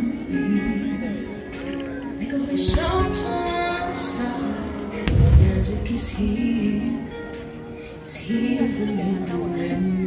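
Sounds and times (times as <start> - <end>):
music over loudspeakers: 0.0 - 10.0.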